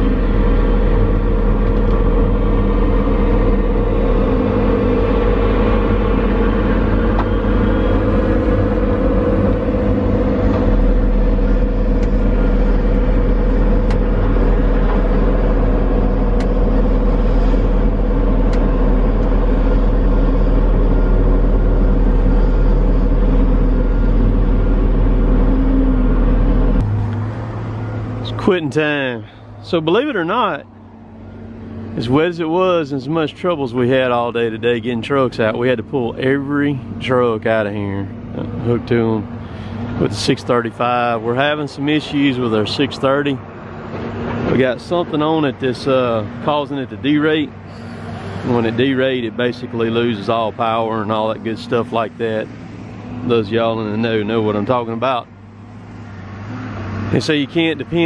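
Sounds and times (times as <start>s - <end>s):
diesel engine rumbling: 0.0s - 58.0s.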